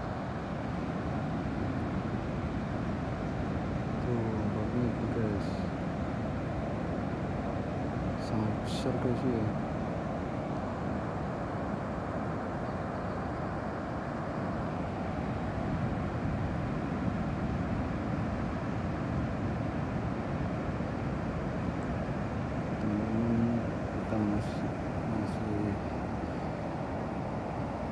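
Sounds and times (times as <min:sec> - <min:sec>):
distant ocean surf: 0:00.0 - 0:27.9.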